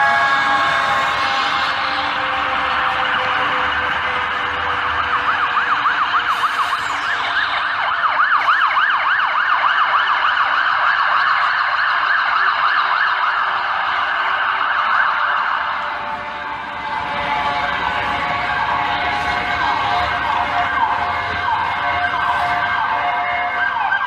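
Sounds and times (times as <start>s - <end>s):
sirens yelping: 0.0s - 24.0s
street traffic: 0.0s - 24.0s.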